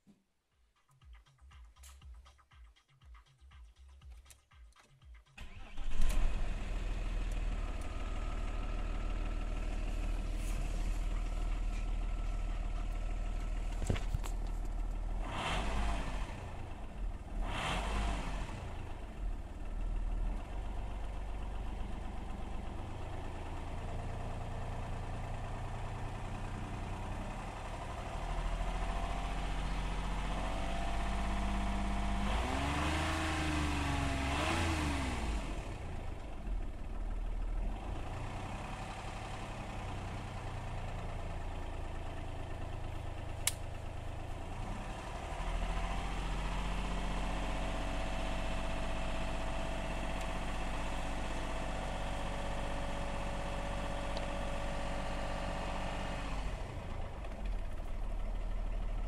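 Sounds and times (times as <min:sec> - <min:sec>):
car engine idling and revving: 0:03.4 - 0:59.0.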